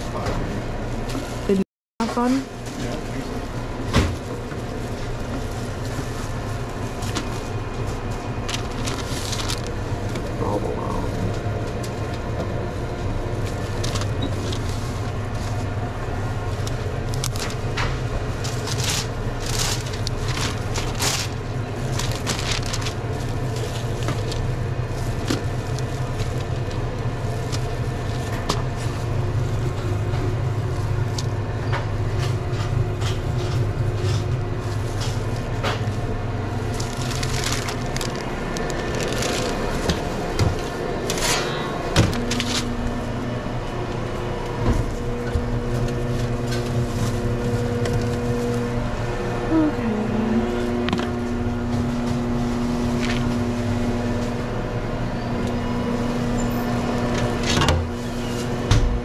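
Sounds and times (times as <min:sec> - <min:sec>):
equipment humming: 0:00.0 - 0:59.0.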